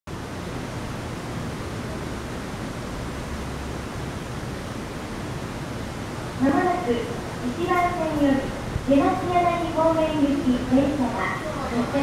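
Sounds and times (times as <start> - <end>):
steady rushing noise: 0.1 - 12.0.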